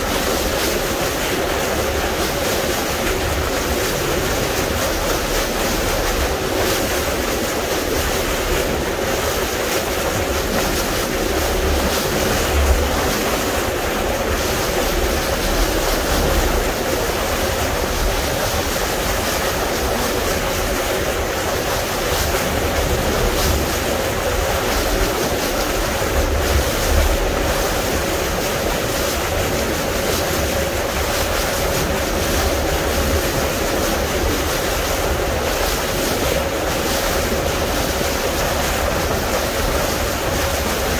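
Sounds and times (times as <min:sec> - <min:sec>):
water rushing past hull: 0:00.0 - 0:40.9.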